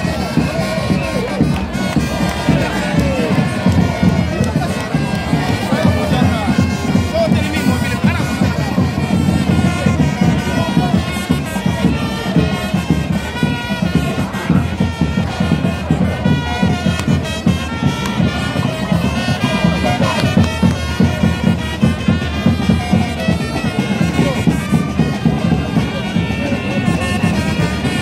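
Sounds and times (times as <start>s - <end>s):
fast busy drumming: 0.0s - 28.0s
reedy wind instrument melody: 0.0s - 28.0s.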